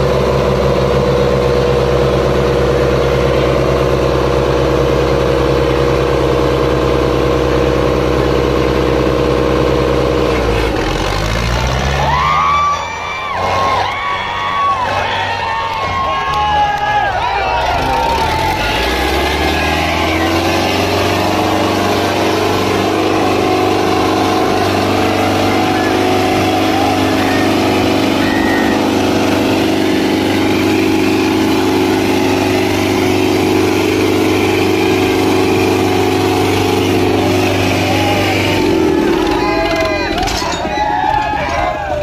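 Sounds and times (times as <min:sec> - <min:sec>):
tractor diesel engines droning: 0:00.0 - 0:42.0.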